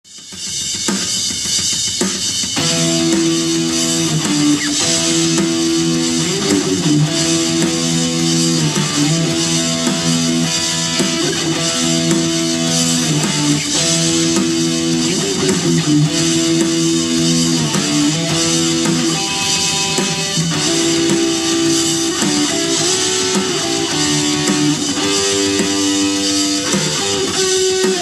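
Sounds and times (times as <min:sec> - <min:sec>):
drums with steady cymbals: 0:00.0 - 0:28.0
electric guitar sustained chords: 0:02.6 - 0:28.0.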